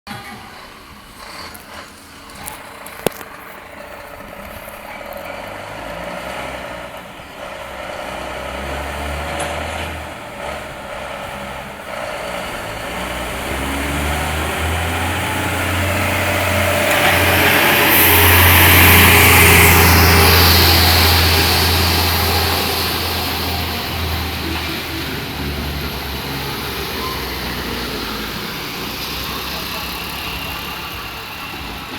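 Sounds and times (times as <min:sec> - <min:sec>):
truck diesel engine droning: 0:00.1 - 0:31.9.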